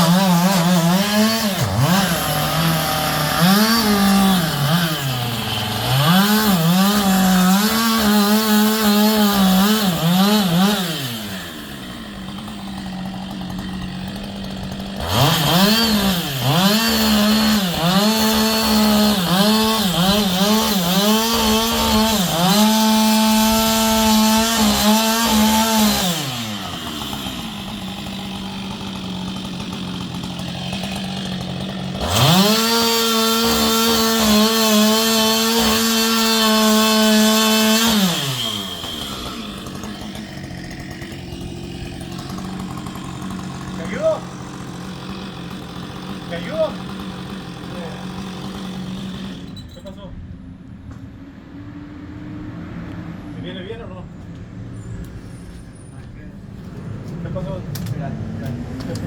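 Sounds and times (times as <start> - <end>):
chainsaw revving and cutting: 0.0 - 49.7, 56.6 - 59.0.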